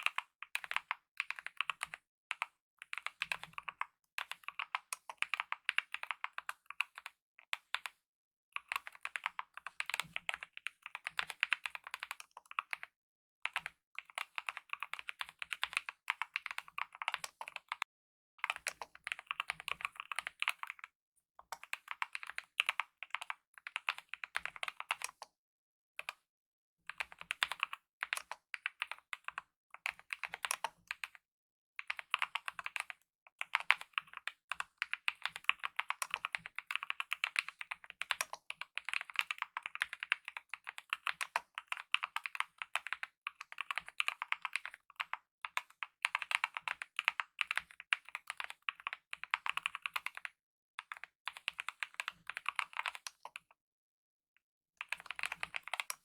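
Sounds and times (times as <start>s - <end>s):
mechanical keyboard typing: 2.9s - 8.0s, 8.6s - 12.8s, 13.5s - 17.8s, 18.4s - 20.8s, 21.5s - 25.3s, 26.9s - 31.2s, 31.8s - 53.4s, 54.8s - 56.0s.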